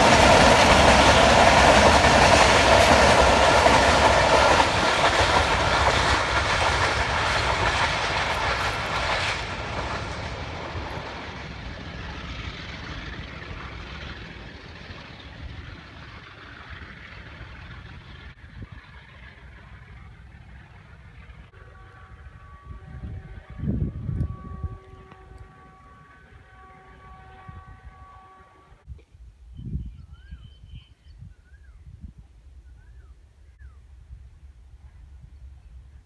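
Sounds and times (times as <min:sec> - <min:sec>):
train rumbling over rails: 0:00.0 - 0:28.9.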